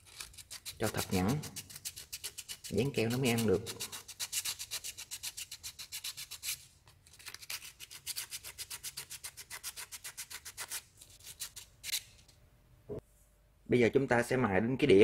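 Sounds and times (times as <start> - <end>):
sandpaper rubbing on metal: 0.0 - 12.1.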